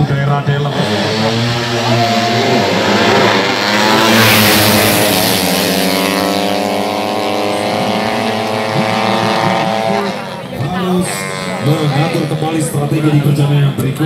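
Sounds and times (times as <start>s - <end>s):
motorcycles passing at full throttle: 0.0s - 14.0s.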